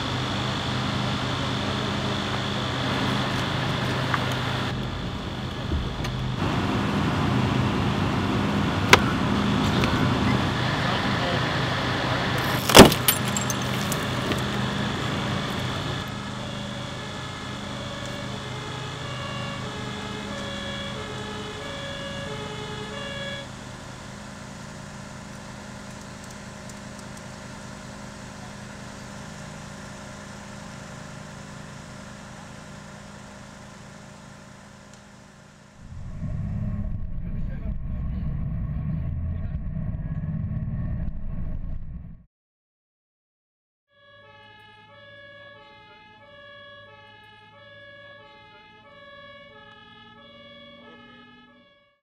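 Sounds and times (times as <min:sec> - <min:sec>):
fire engine two-tone siren: 0:00.0 - 0:37.1, 0:43.9 - 0:52.0
vehicle hum: 0:00.0 - 0:42.2.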